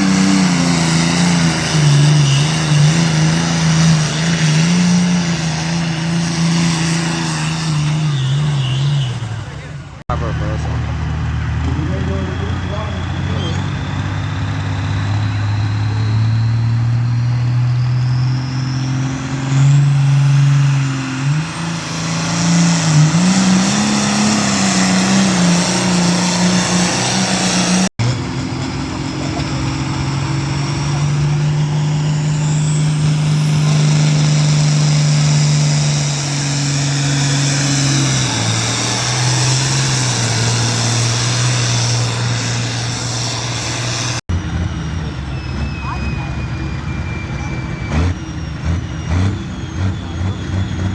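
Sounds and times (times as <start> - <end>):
second engine steady note: 7.2 - 50.9.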